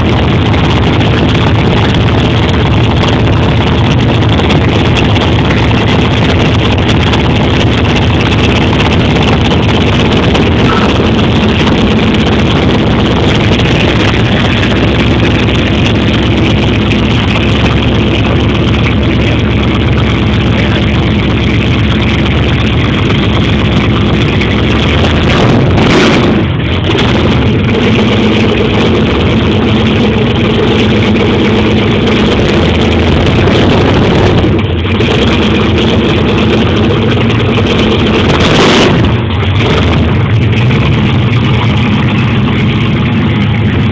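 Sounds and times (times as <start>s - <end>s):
car engine idling loudly: 0.0s - 43.9s
sharp burst of engine sound: 0.0s - 43.9s.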